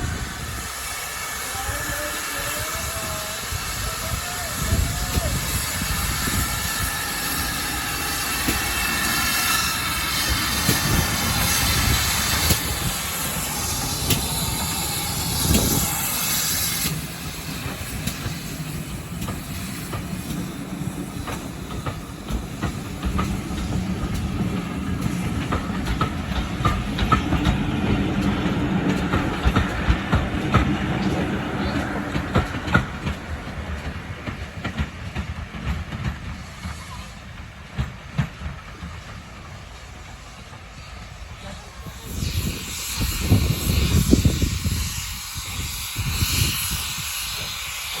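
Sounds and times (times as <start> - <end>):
steam hissing loudly: 0.0 - 48.0
train wheels clicking over rail joints: 3.5 - 48.0.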